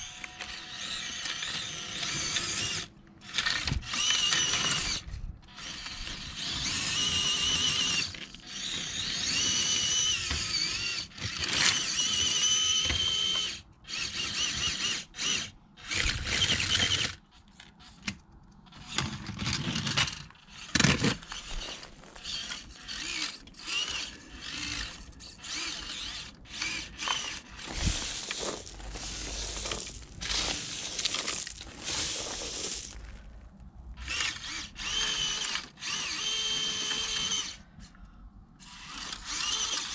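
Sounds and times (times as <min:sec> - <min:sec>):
toy car motor whining: 0:00.0 - 0:33.0, 0:34.0 - 0:37.7, 0:38.6 - 0:39.9.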